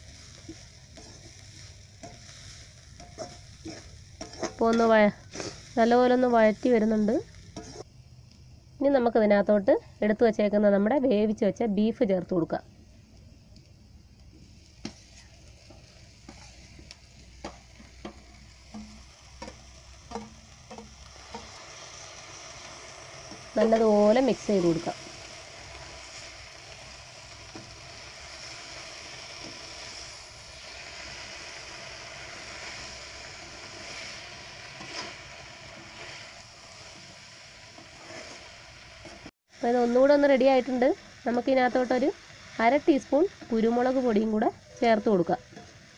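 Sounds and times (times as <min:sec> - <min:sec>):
soft sizzle: 0:00.0 - 0:45.9.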